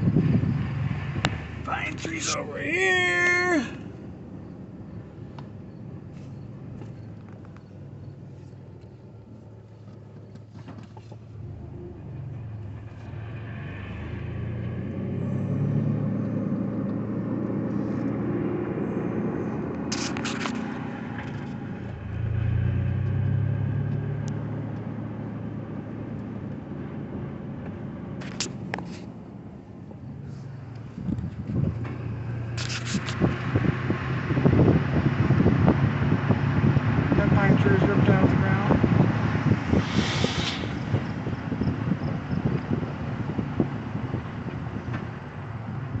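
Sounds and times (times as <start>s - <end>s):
car engine and road rumble: 0.0s - 46.0s.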